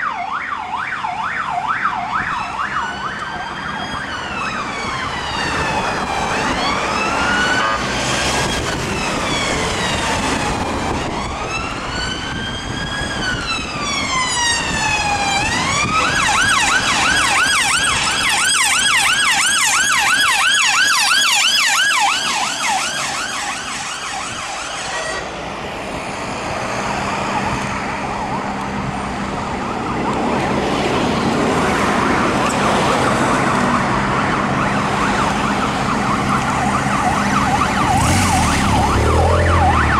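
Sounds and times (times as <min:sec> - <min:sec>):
emergency vehicle siren: 0:00.0 - 0:39.9
road noise: 0:00.0 - 0:39.9.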